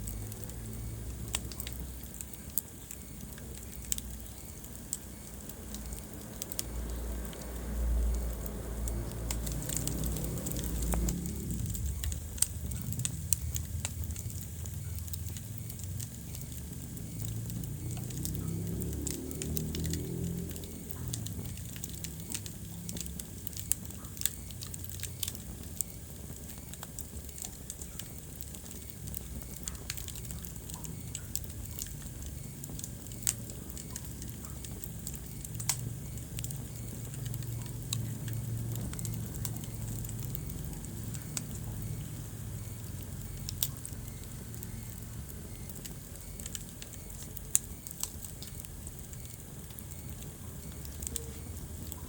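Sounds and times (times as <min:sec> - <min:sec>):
fire crackling and popping: 0:00.0 - 0:52.0
low rumble of flames: 0:00.0 - 0:52.0.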